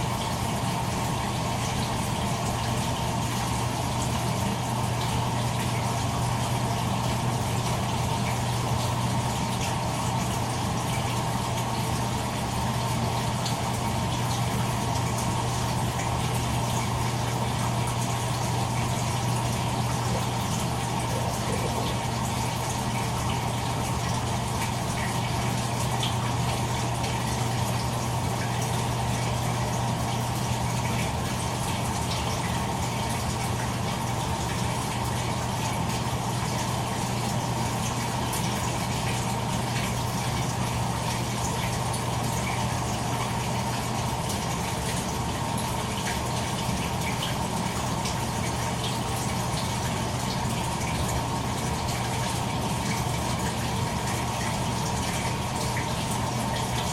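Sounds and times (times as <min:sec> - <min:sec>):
washing machine running: 0:00.0 - 0:56.9
water rushing: 0:01.8 - 0:56.9.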